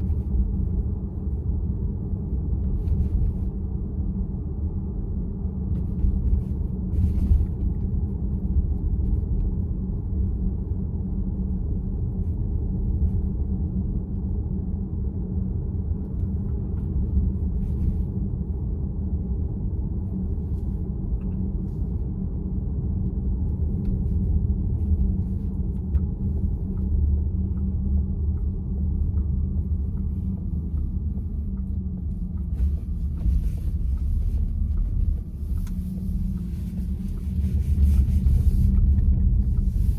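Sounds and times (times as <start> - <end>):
road and tyre rumble inside car: 0.0 - 39.9.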